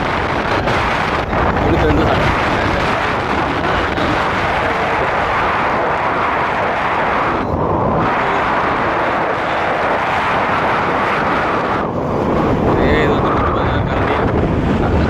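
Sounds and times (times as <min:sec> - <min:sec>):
vehicle road and engine noise: 0:00.0 - 0:15.0
wind on microphone: 0:00.0 - 0:15.0.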